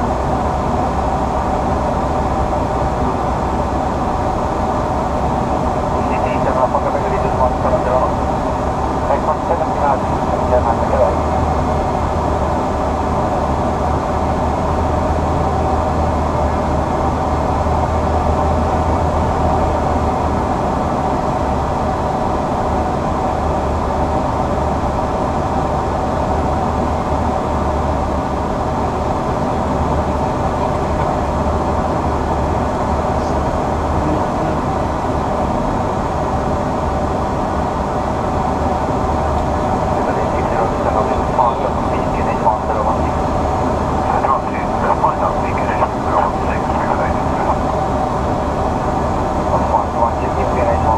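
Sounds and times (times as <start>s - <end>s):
aircraft engine hum: 0.0s - 50.9s.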